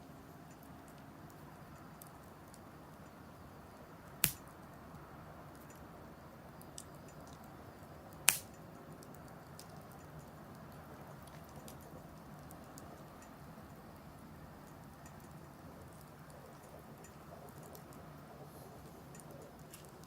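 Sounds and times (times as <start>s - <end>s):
wood fire crackling softly: 0.0s - 20.0s.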